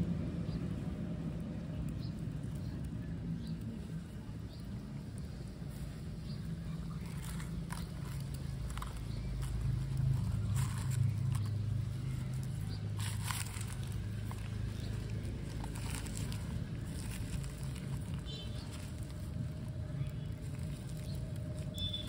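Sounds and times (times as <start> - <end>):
fingers mixing rice in clay pot: 2.4 - 22.0.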